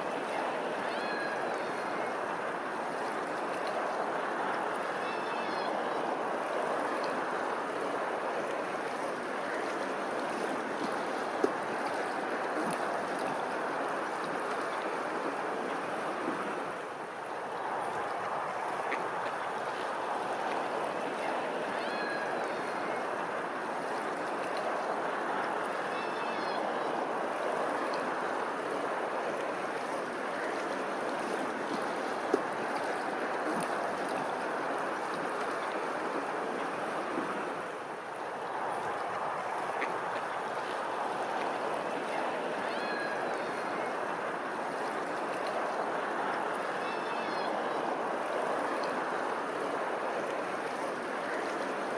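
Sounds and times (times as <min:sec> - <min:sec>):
running water rushing: 0:00.0 - 0:51.9.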